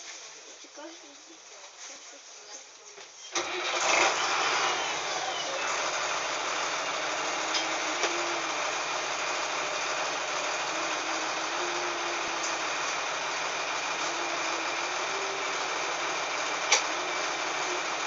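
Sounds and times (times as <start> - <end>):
diesel bus engine starting and idling: 3.3 - 18.0.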